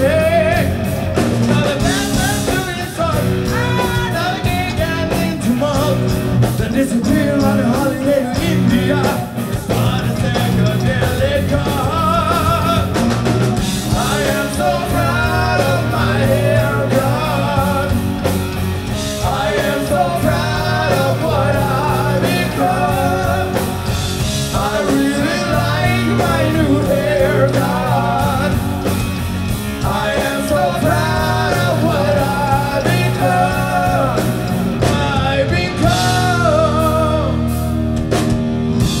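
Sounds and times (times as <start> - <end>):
bass guitar: 0.0 - 39.0
distorted electric guitars: 0.0 - 39.0
rock drums: 0.0 - 39.0
wavering high lead guitar line: 0.0 - 39.0.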